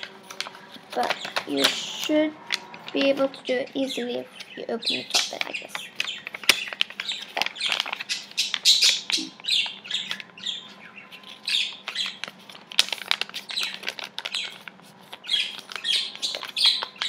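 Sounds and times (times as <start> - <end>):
paper rustling and crinkling: 0.0 - 9.3, 11.1 - 17.0.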